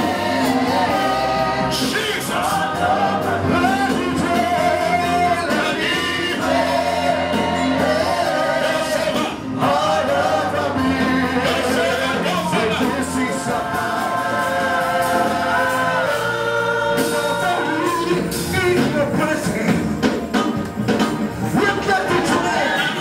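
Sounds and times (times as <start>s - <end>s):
voices singing gospel: 0.0s - 20.2s, 21.2s - 23.0s
steady bass: 0.0s - 23.0s.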